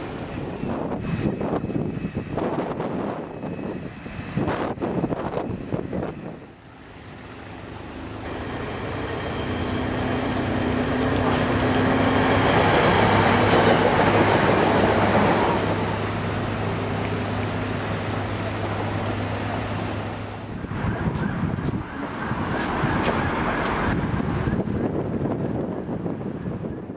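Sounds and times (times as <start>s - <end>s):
train passing: 0.0s - 26.9s.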